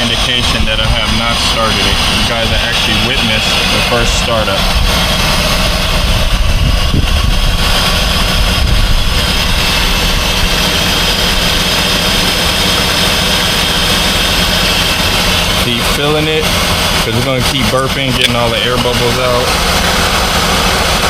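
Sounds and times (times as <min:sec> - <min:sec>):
car engine idling: 0:00.0 - 0:21.0
high whine: 0:00.0 - 0:21.0.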